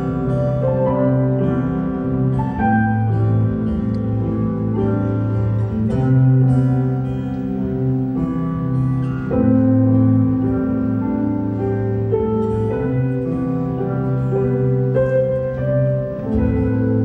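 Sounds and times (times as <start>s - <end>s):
acoustic guitar: 0.0s - 17.0s
keyboard chords: 0.0s - 17.0s.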